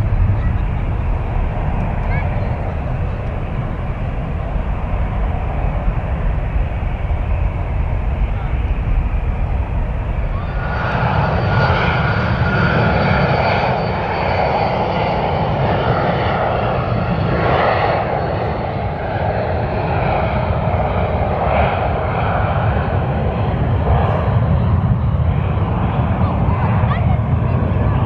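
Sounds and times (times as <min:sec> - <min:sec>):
high jet engine whine: 0:00.0 - 0:28.0
jet engine rumble: 0:00.0 - 0:28.0.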